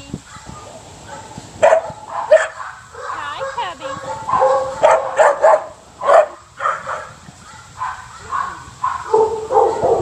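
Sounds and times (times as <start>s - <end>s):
puppies yipping and barking: 0.3s - 10.0s.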